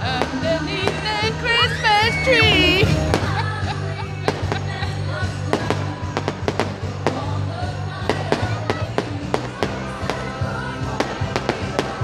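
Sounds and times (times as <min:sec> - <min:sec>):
fireworks bangs and crackles: 0:00.0 - 0:12.0
loud music: 0:00.0 - 0:12.0.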